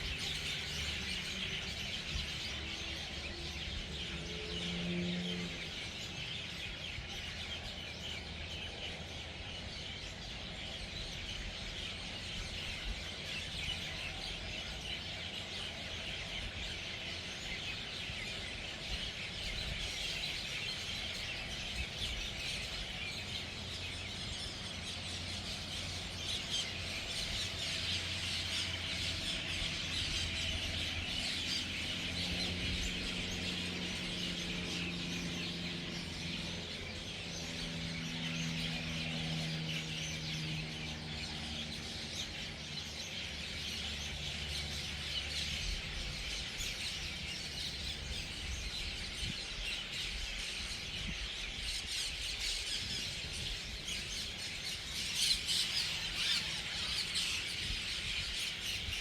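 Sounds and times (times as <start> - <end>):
flock of birds chattering: 0.0 - 59.0
low engine-like hum: 0.0 - 59.0.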